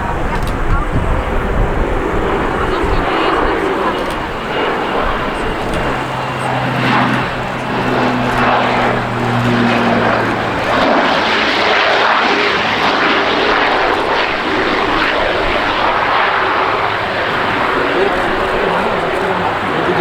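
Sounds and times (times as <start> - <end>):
low hum: 0.0 - 19.2
jet engines rushing: 0.0 - 20.0.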